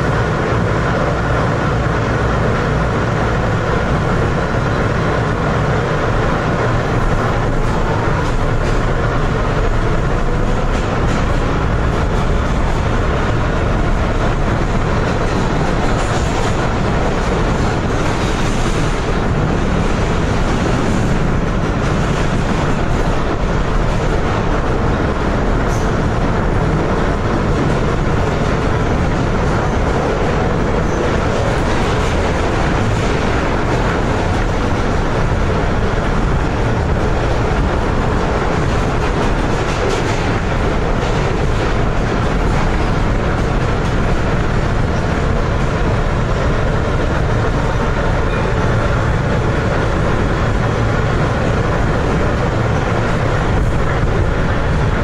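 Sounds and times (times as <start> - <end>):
subway wheels rumbling on rails: 0.0 - 55.0.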